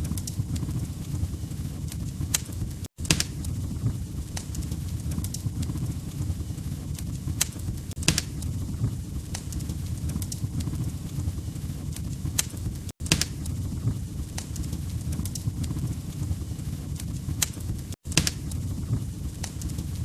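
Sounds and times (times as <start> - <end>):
log fire pops and snaps: 0.0 - 20.0
low rumble of flames: 0.0 - 20.0.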